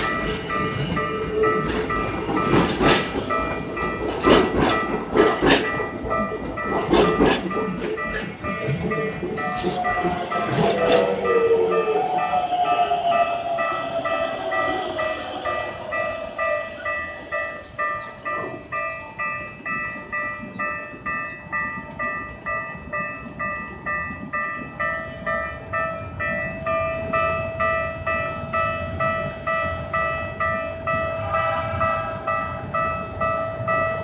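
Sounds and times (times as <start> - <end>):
level-crossing warning bell: 0.0 - 34.0
passing train running: 0.0 - 34.0.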